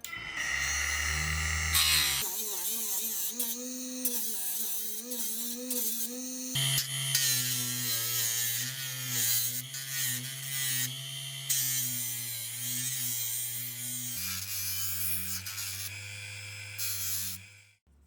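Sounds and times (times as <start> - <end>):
small electric tool buzzing: 0.0 - 17.8.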